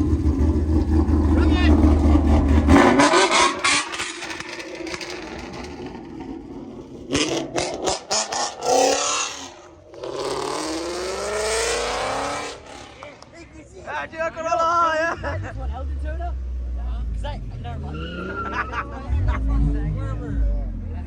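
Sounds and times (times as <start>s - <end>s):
car engines revving: 0.0s - 13.6s, 14.4s - 21.0s.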